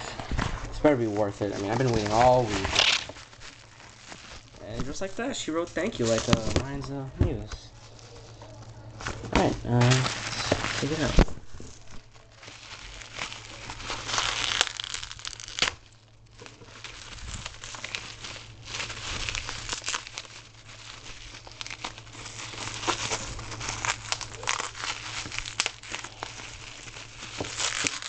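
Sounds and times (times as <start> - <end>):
bubble wrap crinkling: 0.0 - 28.0.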